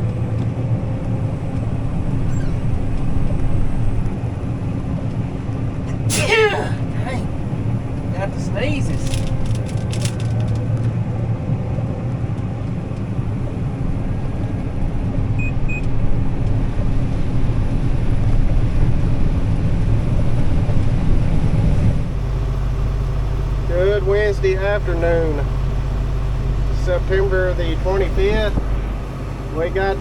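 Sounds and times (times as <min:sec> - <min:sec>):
combine harvester rumble: 0:00.0 - 0:30.0
deep engine hum: 0:00.0 - 0:30.0.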